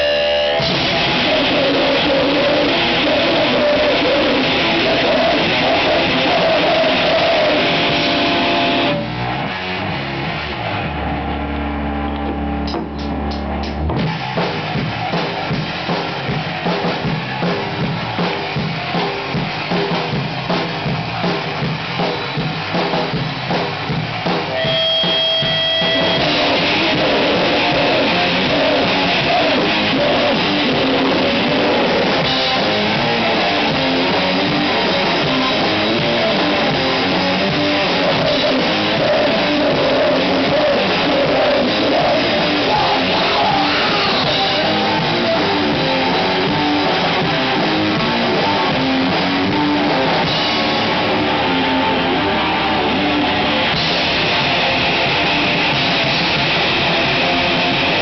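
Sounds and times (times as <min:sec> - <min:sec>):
bass guitar: 0:00.0 - 0:58.0
distorted electric guitar: 0:00.0 - 0:58.0
drum kit: 0:00.0 - 0:58.0.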